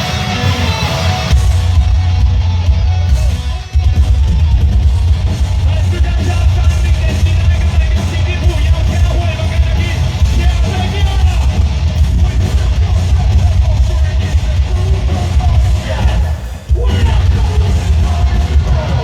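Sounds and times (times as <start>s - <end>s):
distorted guitars: 0.0s - 19.0s
pounding drums: 0.0s - 19.0s.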